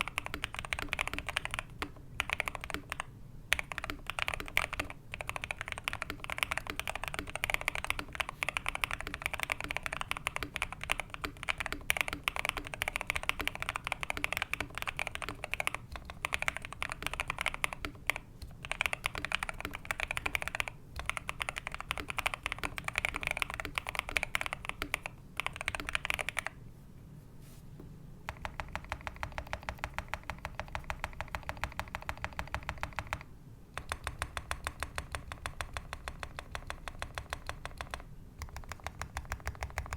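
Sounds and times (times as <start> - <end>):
mechanical keyboard typing: 0.0 - 26.6, 28.3 - 39.9.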